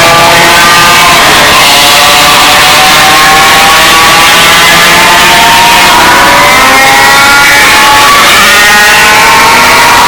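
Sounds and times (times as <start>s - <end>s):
rotary engine at high revs: 0.0s - 10.0s.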